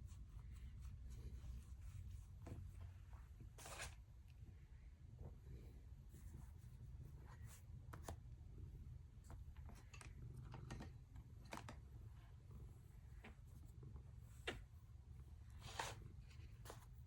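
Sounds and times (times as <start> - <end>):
soft handling clicks and rustles: 0.0 - 4.4, 6.0 - 17.0
faint room hum: 0.0 - 17.0.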